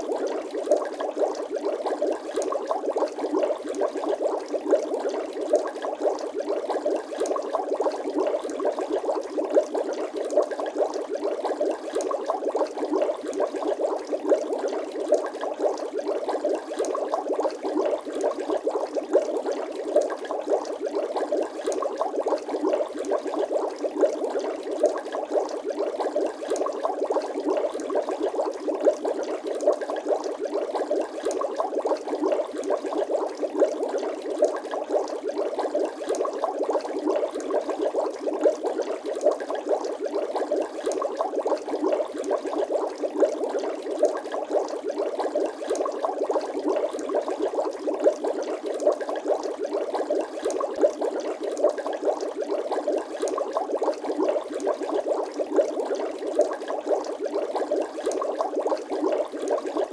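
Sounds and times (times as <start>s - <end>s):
water bubbling: 0.0s - 59.9s.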